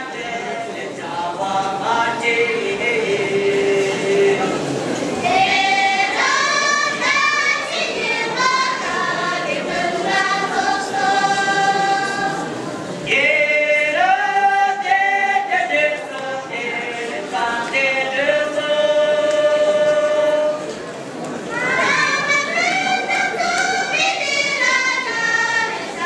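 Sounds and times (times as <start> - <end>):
mixed choir singing: 0.0 - 20.7, 21.4 - 26.0.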